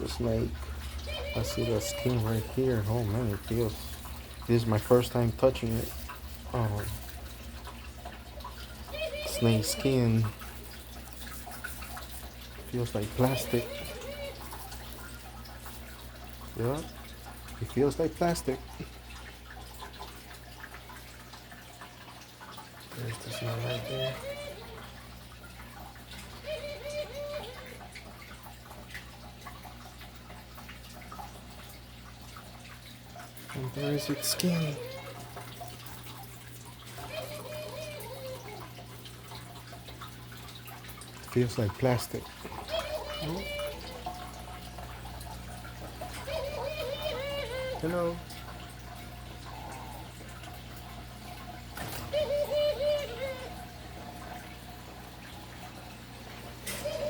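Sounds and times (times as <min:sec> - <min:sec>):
small drip clicks: 0:00.0 - 0:57.0
water dripping and trickling: 0:00.0 - 0:57.0.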